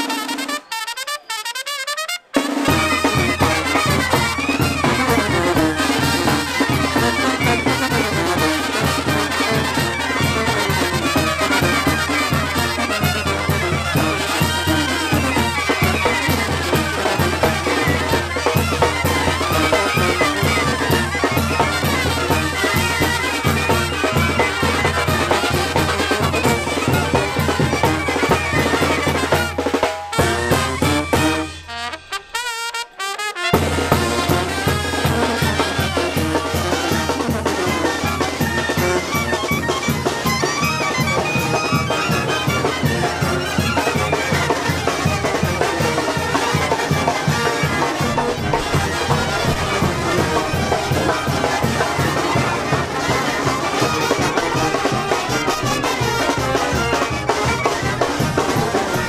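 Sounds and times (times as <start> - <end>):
brass band playing: 0.0 - 59.0
steady drum beat: 2.4 - 59.0.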